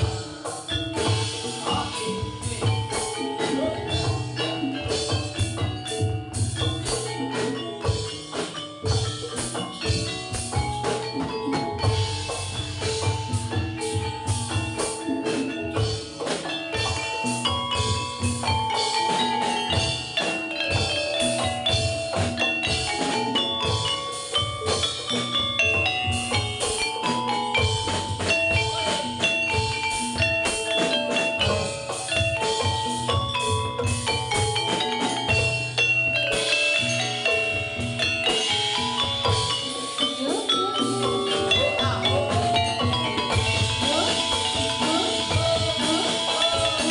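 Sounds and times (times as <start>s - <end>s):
metallophones striking fast melody: 0.0s - 46.9s
steady drumming: 0.0s - 46.9s.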